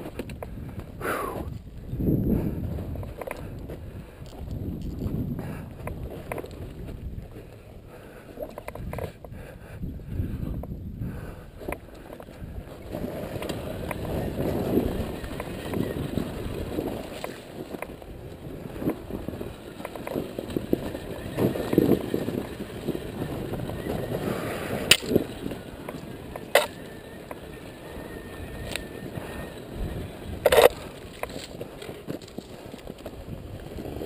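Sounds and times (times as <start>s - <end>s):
dirt bike rattling over rocks: 0.0s - 7.7s, 8.3s - 9.3s, 11.6s - 34.0s.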